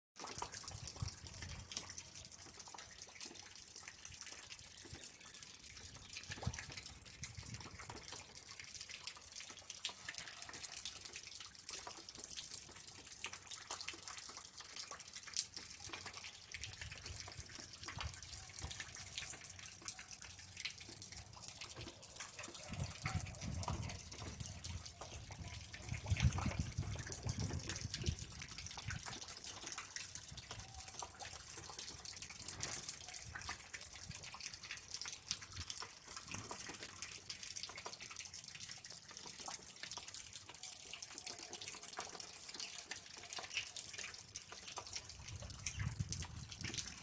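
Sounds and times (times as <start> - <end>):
drips ticking: 0.2 - 47.0.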